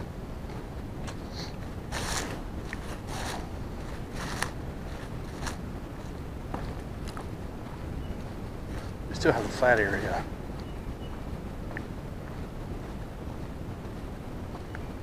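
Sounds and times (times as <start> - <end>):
steady low rumble: 0.0 - 15.0
footsteps crunching on leaves: 0.5 - 14.7.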